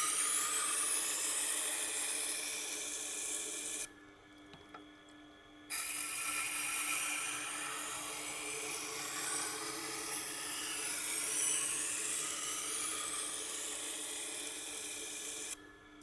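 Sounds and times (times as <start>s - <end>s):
knife grinding on sharpening wheel: 0.0s - 3.9s, 5.7s - 15.6s.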